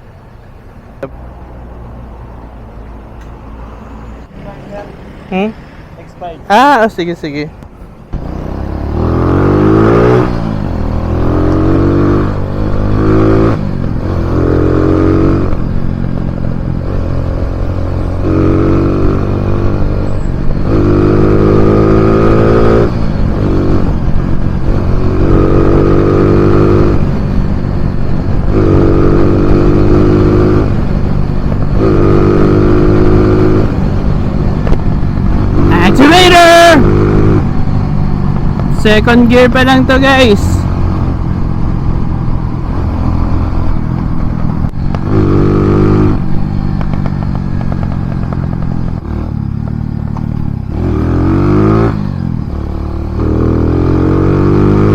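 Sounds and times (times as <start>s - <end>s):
motorcycle engine revving: 8.1s - 54.9s.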